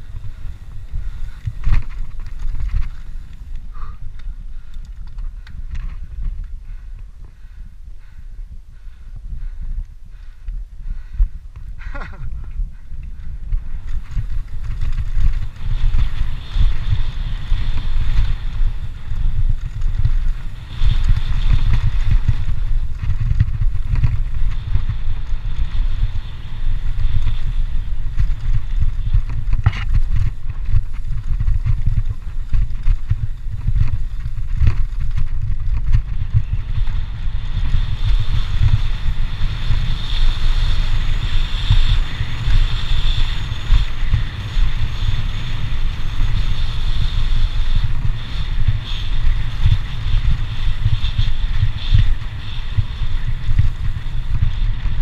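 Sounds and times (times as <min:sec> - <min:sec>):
bike rattling on dirt trail: 0:00.0 - 0:55.0
wind buffeting microphone: 0:00.0 - 0:55.0.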